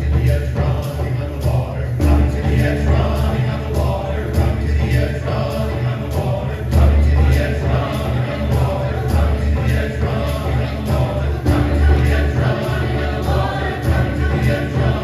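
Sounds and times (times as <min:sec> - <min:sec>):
drum strikes: 0:00.0 - 0:15.0
mixed choir singing: 0:00.0 - 0:15.0.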